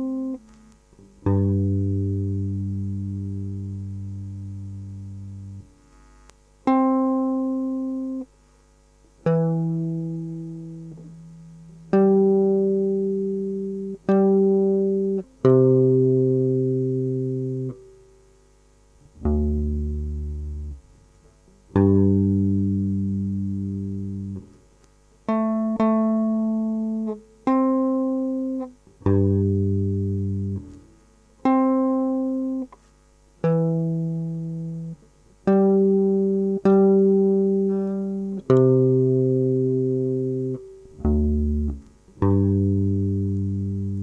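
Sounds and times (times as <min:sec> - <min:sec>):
guitar plucked notes: 0:00.0 - 0:05.9, 0:06.6 - 0:08.3, 0:09.2 - 0:18.3, 0:19.0 - 0:44.0.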